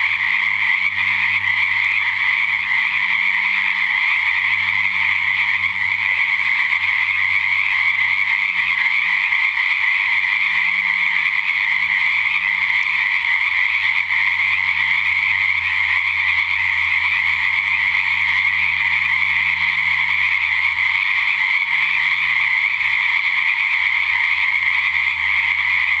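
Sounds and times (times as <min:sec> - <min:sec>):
chorus of frogs calling: 0:00.0 - 0:26.0.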